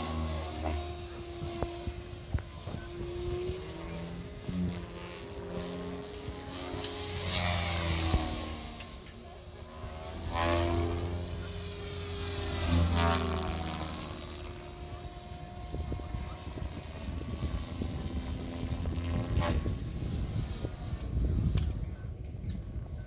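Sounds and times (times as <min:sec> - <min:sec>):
model airplane motor drone: 0:00.0 - 0:23.0.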